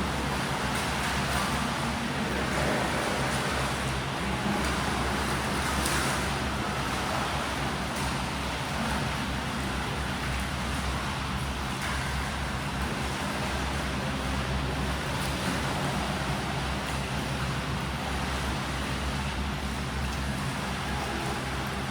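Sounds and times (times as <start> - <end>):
constant low rumble: 0.0 - 21.9
water churning from swimmers: 0.0 - 21.9.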